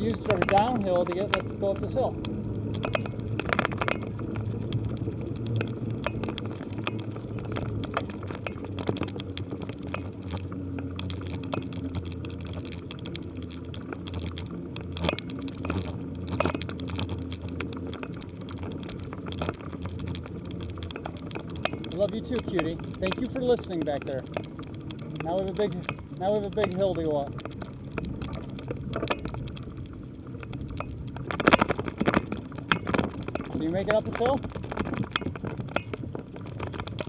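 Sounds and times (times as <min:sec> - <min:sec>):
bicycle parts clicking and rattling: 0:00.0 - 0:37.0
tyres and wind rumbling: 0:00.0 - 0:37.0.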